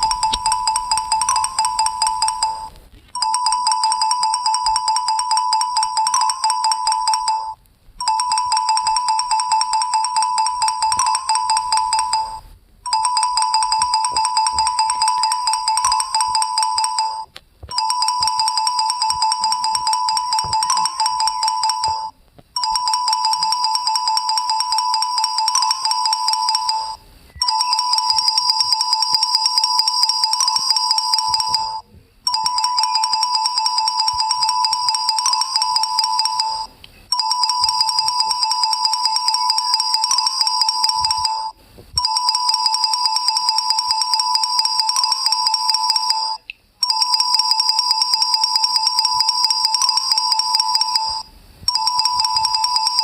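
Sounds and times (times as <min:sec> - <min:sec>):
pulsing phone ringtone: 0:00.0 - 0:53.0.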